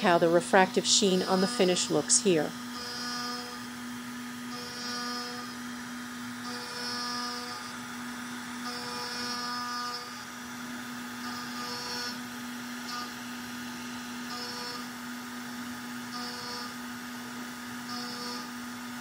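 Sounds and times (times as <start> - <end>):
router spindle humming: 0.0 - 19.0.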